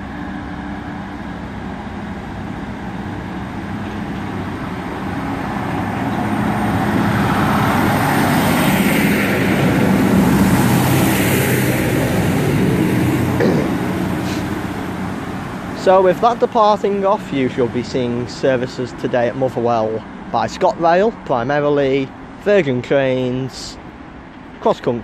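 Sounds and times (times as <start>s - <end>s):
diesel train passing: 0.0s - 25.0s.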